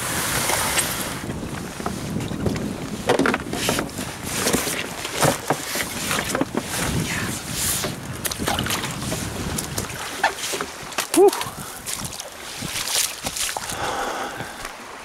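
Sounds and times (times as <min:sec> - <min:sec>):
wind on microphone: 0:00.0 - 0:15.0
paddle splashing and dripping: 0:00.1 - 0:15.0.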